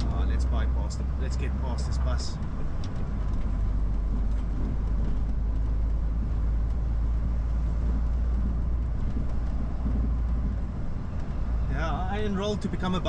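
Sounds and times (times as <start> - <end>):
lorry diesel engine rumble: 0.0 - 13.0
road noise: 0.0 - 13.0.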